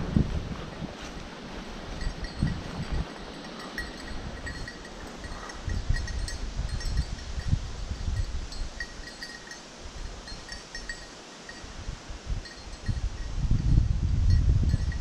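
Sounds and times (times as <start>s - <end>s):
low wind rumble: 0.0s - 15.0s
small collar bell tinkling: 2.0s - 11.8s, 12.4s - 15.0s.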